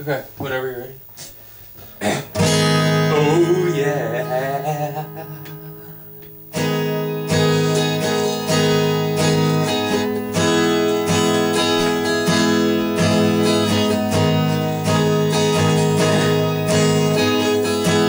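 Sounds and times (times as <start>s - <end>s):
acoustic guitar strumming chords: 1.9s - 18.0s.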